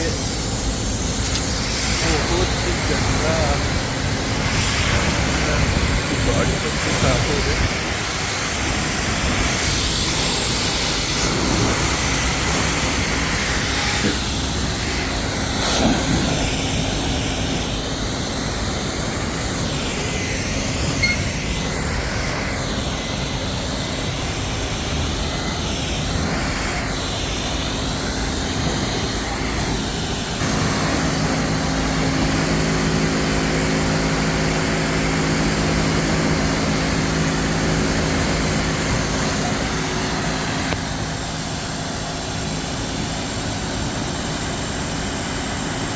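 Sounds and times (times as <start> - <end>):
machine hum: 0.0 - 43.9
pressure washer spraying water: 0.0 - 45.9.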